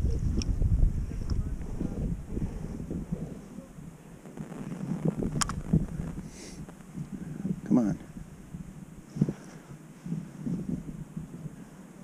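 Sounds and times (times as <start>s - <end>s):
microphone handling rumble: 0.0s - 11.7s
wind on microphone: 0.0s - 12.0s.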